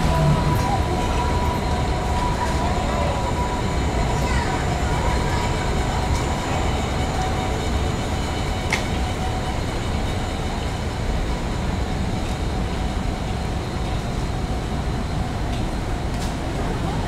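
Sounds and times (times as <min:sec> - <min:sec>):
city street rumble: 0:00.0 - 0:17.0.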